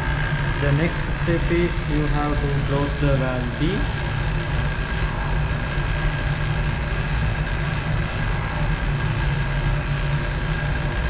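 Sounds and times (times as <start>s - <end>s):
machinery low drone: 0.0s - 11.0s.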